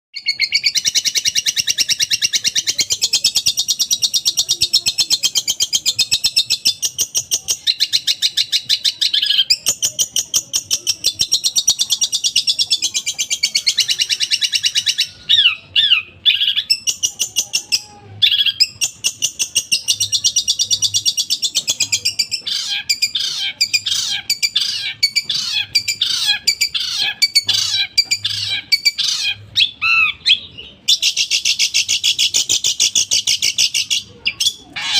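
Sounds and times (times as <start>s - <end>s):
bird chattering song: 0.2s - 34.9s.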